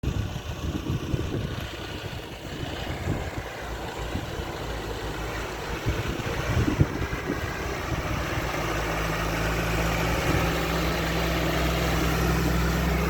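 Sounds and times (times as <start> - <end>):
engine low uneven rumble: 0.0 - 13.0.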